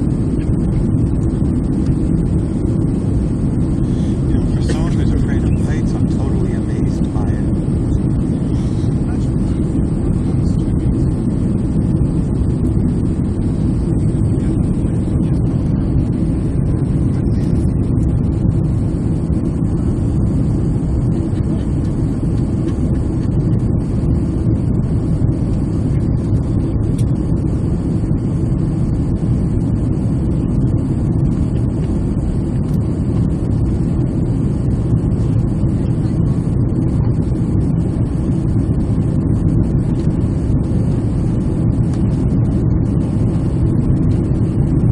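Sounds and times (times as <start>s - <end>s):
airflow over fuselage: 0.0s - 44.9s
jet engine cabin rumble: 0.0s - 44.9s.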